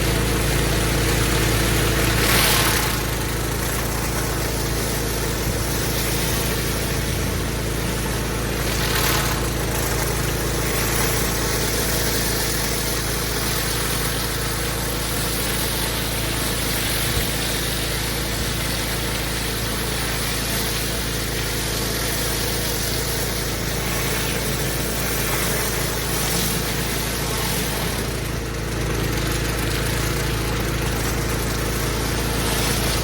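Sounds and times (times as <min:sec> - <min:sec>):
pressure washer engine hum: 0:00.0 - 0:33.0
water spray hissing: 0:01.7 - 0:33.0.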